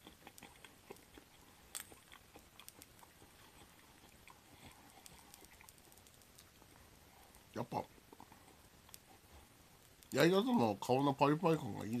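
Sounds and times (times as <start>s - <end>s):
faint crunchy chewing: 0.0s - 10.6s.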